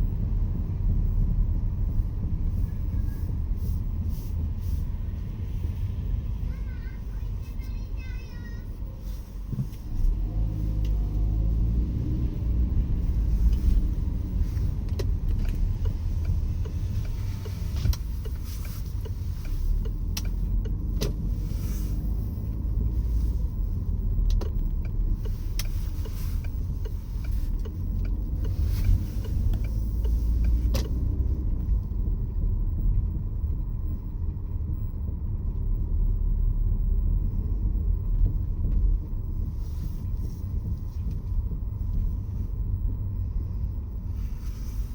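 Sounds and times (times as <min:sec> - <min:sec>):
low road rumble in car: 0:00.0 - 0:44.9.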